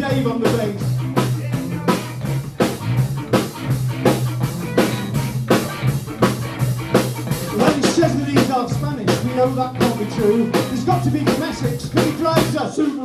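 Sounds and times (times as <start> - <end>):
bass guitar: 0.0 - 12.7
drum kit steady beat: 0.0 - 13.0
guitar playing: 0.0 - 13.0.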